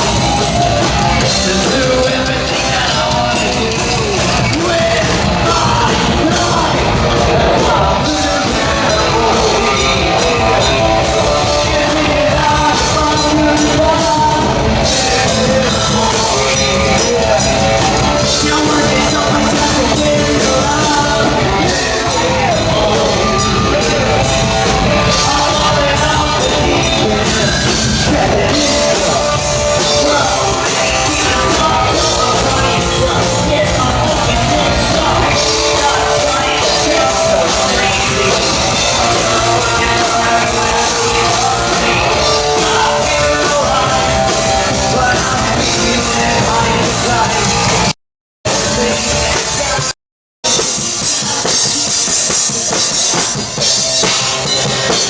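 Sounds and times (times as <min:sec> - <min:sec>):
live punk rock band playing: 0:00.0 - 0:55.0.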